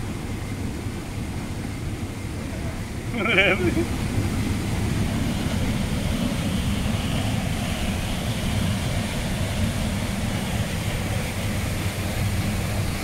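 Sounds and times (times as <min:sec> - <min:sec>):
river water running: 0:00.0 - 0:13.0
small waterfall rushing: 0:00.0 - 0:13.0.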